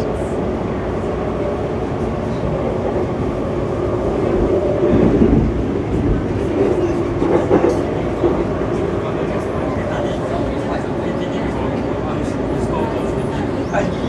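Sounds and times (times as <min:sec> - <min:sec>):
metro train rumble inside car: 0:00.0 - 0:14.0.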